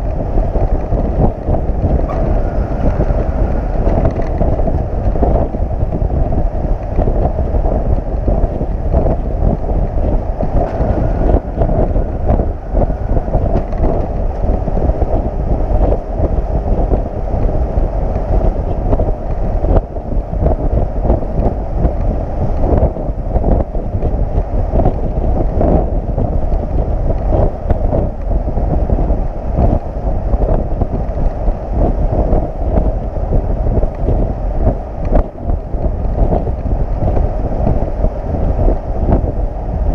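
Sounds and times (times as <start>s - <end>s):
truck rumbling at speed: 0.0s - 39.9s
wind buffeting microphone: 0.0s - 39.9s.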